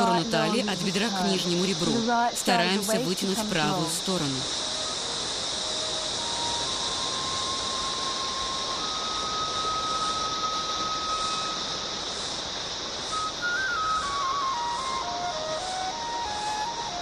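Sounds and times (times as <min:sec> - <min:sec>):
crickets chirring: 0:00.0 - 0:17.0
soft music of long held notes: 0:02.9 - 0:17.0.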